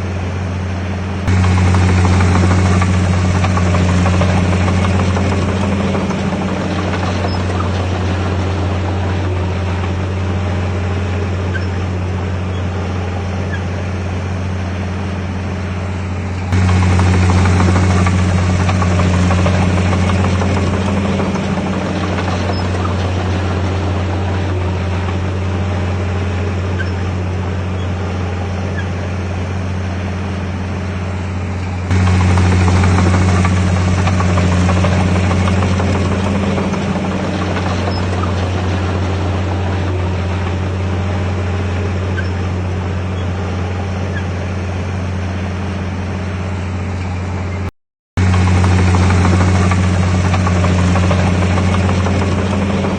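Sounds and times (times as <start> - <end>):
diesel engine humming: 0.0 - 52.9.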